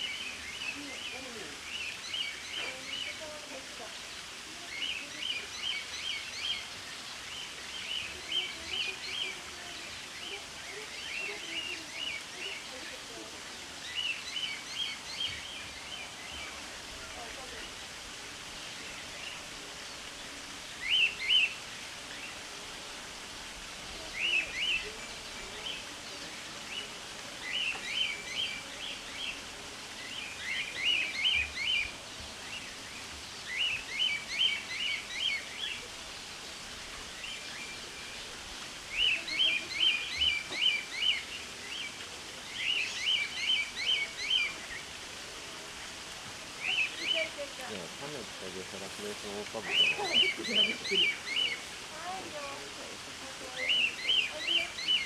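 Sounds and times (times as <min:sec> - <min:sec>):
bird chirping: 0:00.0 - 0:17.9, 0:18.6 - 0:22.4, 0:24.1 - 0:45.0, 0:46.6 - 0:52.7, 0:53.4 - 0:55.0
steady background hiss: 0:00.0 - 0:55.0.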